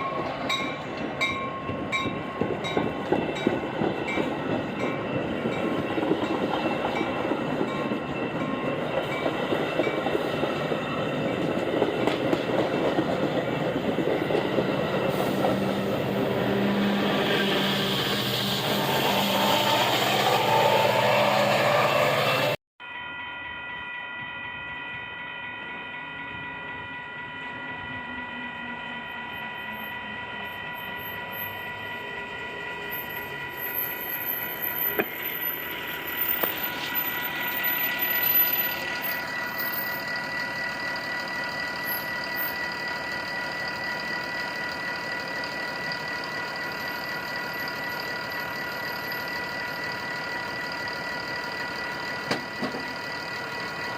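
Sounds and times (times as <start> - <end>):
train rumbling: 0.0 - 22.6, 26.3 - 53.9
train high ringing tone: 0.0 - 53.9.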